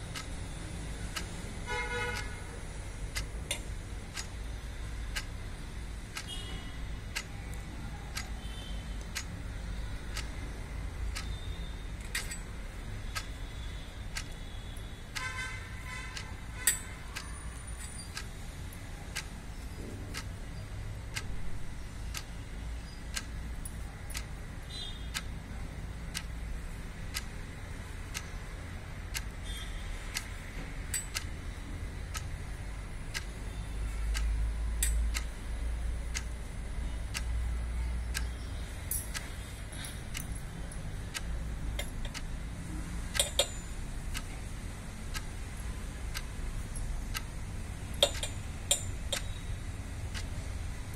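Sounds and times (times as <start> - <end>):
clock ticking: 0.0 - 50.9.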